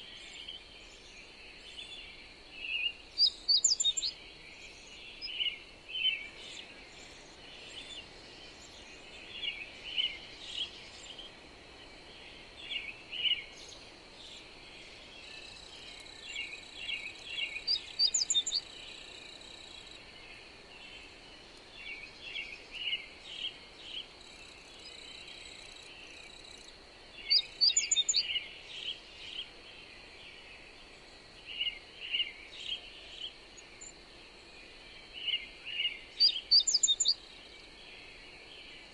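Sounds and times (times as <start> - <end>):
songbirds chirping: 0.0 - 38.9
wind hiss: 0.0 - 38.9.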